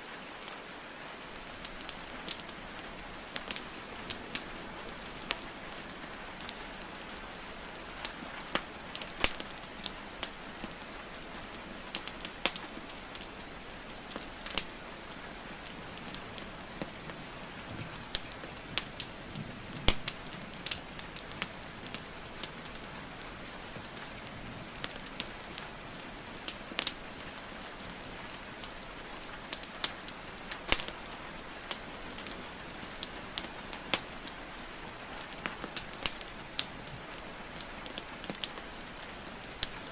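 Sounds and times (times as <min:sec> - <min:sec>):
rain falling: 0:00.0 - 0:39.9
wood fire crackling and popping: 0:01.3 - 0:39.9.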